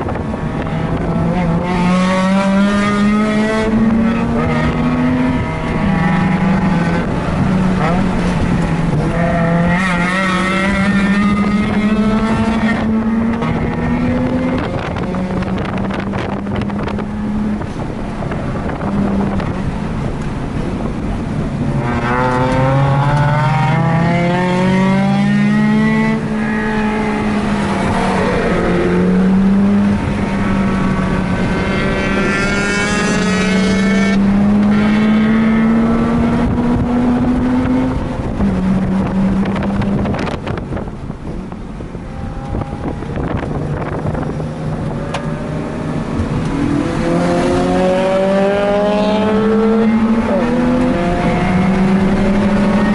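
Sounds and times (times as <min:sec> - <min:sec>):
rotary engine accelerating: 0:00.0 - 0:20.9, 0:21.5 - 0:52.9
wind noise on microphone: 0:00.0 - 0:52.9.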